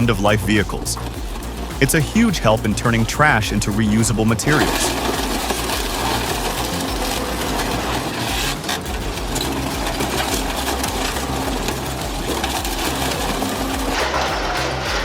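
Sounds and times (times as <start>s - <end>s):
industrial shredder grinding: 0.0s - 15.0s.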